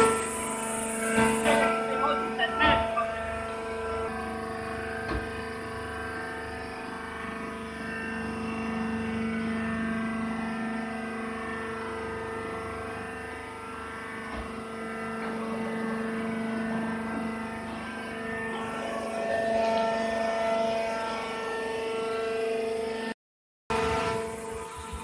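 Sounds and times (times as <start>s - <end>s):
hydraulic pump humming: 0.0s - 23.1s.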